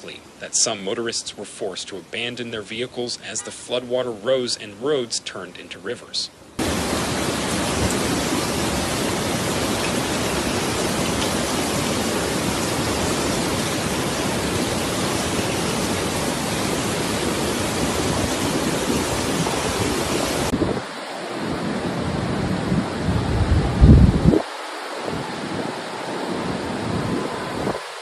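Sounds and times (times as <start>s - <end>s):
heavy rain pouring: 0.0s - 5.4s, 6.6s - 28.0s.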